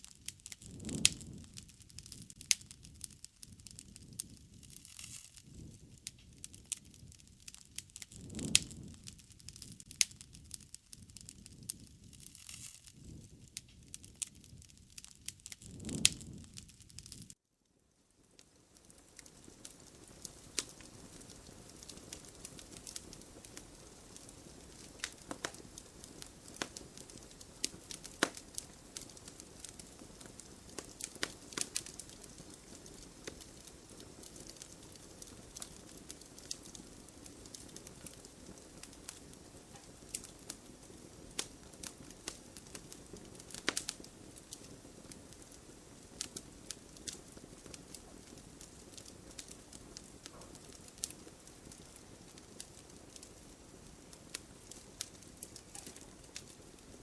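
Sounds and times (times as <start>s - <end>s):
campfire crackling and popping: 0.0s - 17.4s, 18.3s - 57.0s.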